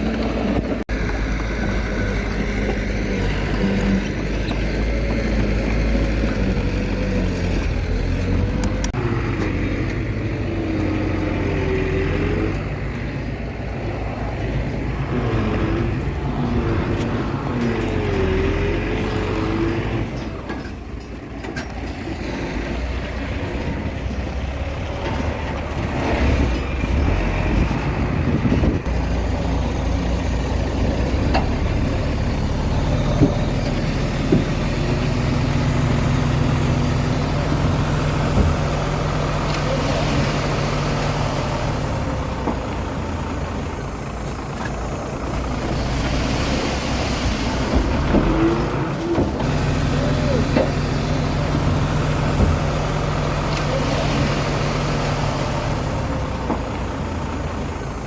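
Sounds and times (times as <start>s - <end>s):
bulldozer diesel engine working: 0.0s - 58.0s.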